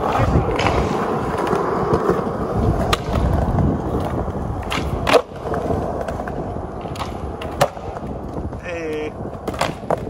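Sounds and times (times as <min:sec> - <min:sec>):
skateboard clack: 0:00.0 - 0:10.0
skateboard wheels rolling on concrete: 0:00.0 - 0:10.0.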